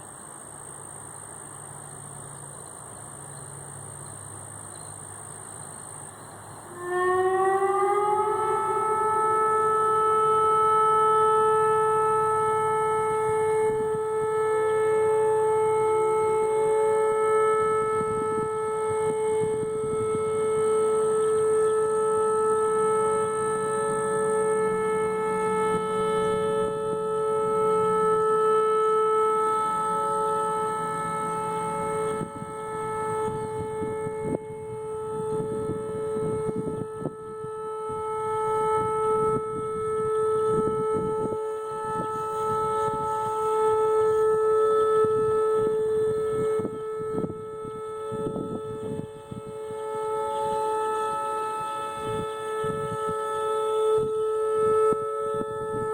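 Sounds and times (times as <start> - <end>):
electronic warning siren steady tone: 0.0 - 55.9.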